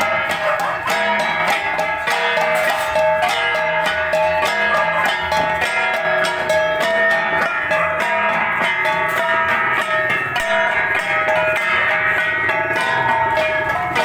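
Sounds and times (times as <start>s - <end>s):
bronze gongs beaten in rhythm: 0.0s - 14.0s.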